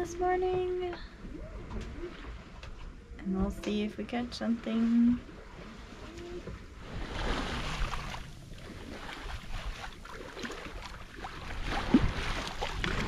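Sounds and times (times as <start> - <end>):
water washing along a hull: 0.0 - 13.0.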